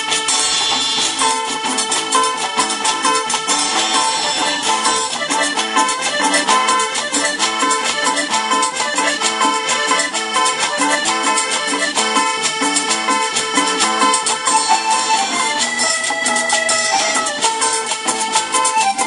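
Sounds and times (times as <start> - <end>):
live tropical dance band: 0.0 - 19.0.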